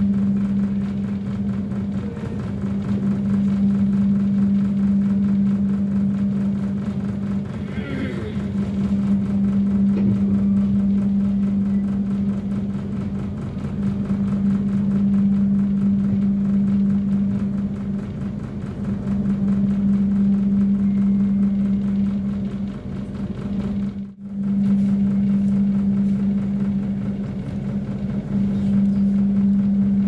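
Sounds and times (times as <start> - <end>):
train mechanical hum: 0.0 - 30.0.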